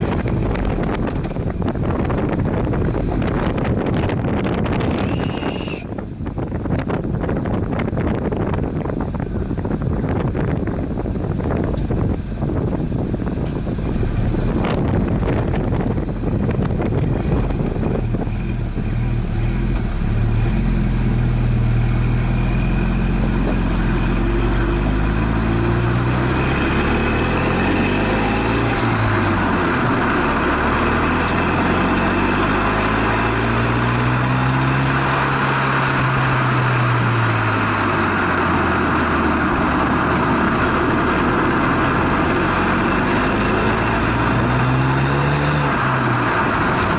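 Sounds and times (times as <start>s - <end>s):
car engine revving: 0.0s - 46.9s
gusty wind noise: 0.0s - 46.9s.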